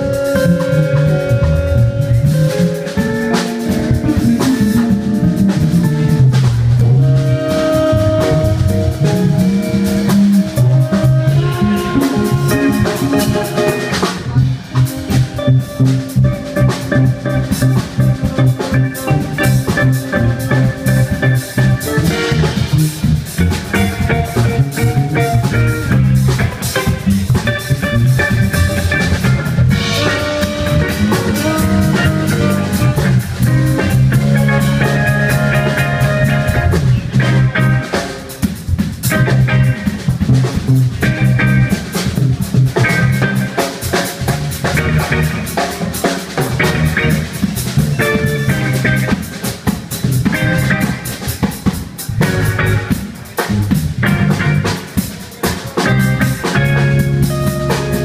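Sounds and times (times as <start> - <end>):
drum kit beat: 0.0 - 58.0
live band playing: 0.0 - 58.0.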